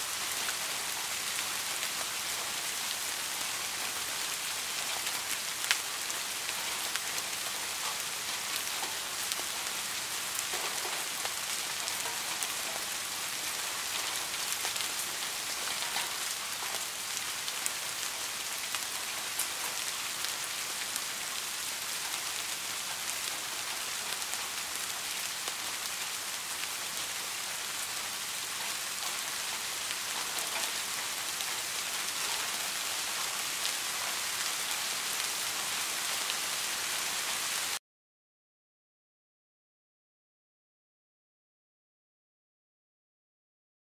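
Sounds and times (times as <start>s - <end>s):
soft rain falling: 0.0s - 37.8s.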